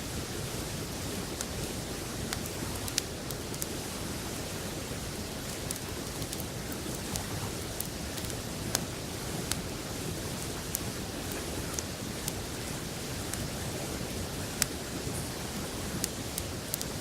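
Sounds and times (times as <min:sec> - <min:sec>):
campfire crackling and popping: 0:01.0 - 0:17.0.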